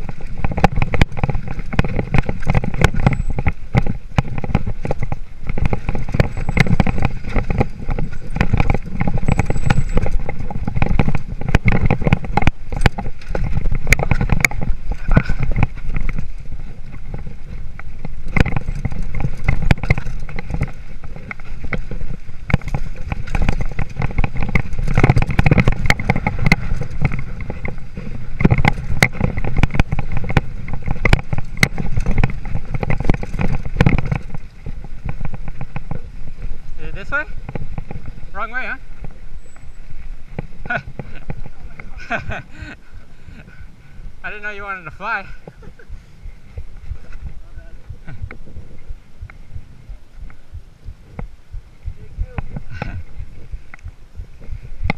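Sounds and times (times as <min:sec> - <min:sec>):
bike rattling and knocking: 0:00.0 - 0:54.9
tyre and wind rumble: 0:00.0 - 0:54.9.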